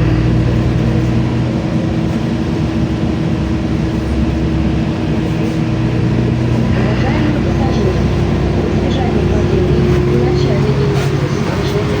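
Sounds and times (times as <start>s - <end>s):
bus engine hum inside cabin: 0.0s - 12.0s.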